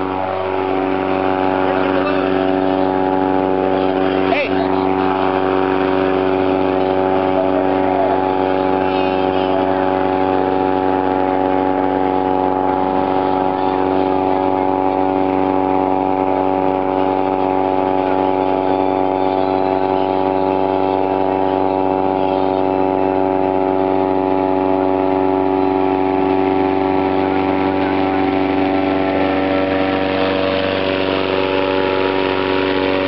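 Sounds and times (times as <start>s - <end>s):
engine humming steadily: 0.0s - 33.0s
hissing noise: 0.0s - 33.0s.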